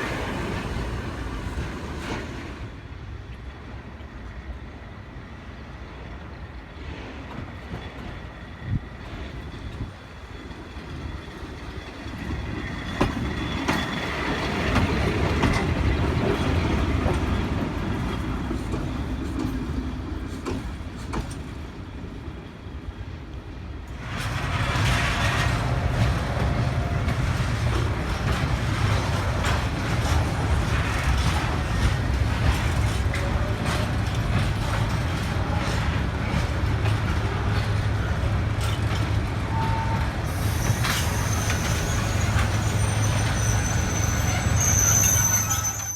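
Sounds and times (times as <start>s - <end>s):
train rumbling past: 0.0s - 45.9s
wheels clattering on rail joints: 6.8s - 21.8s, 23.9s - 45.9s.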